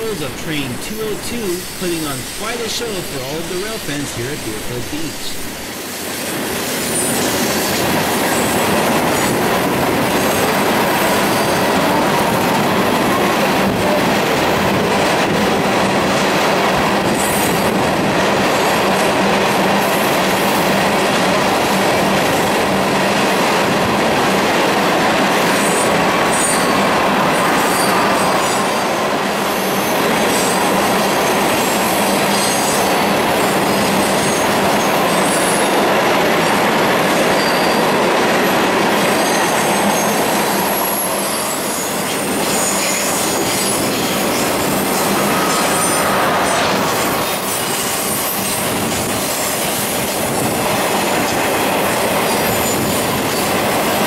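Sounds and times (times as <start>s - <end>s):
steel wheels rumbling on rail: 5.4s - 54.0s.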